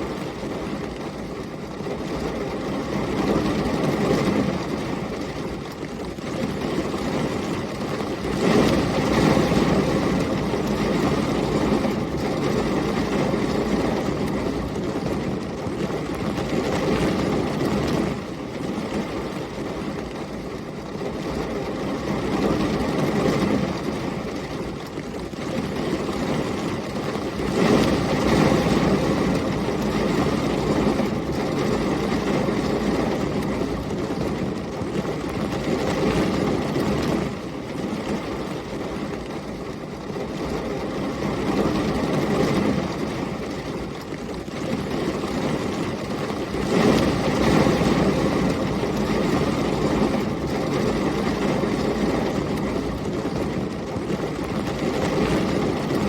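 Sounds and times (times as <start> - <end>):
heavy rain and storm wind: 0.0 - 56.0.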